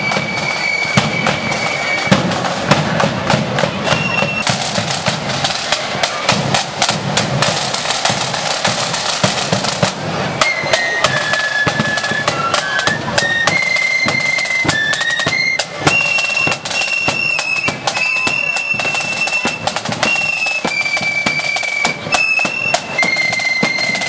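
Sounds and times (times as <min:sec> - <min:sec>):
flutes playing high melody: 0:00.0 - 0:02.4, 0:03.7 - 0:05.0, 0:08.1 - 0:24.0
snare and bass drums: 0:00.0 - 0:24.0.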